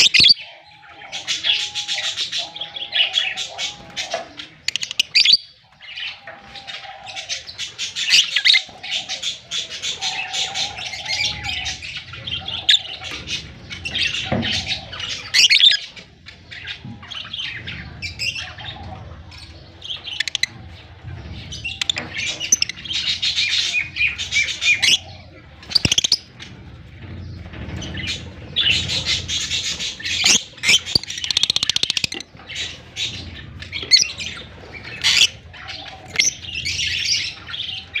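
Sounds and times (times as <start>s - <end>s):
lovebirds chirping: 0.0s - 38.0s.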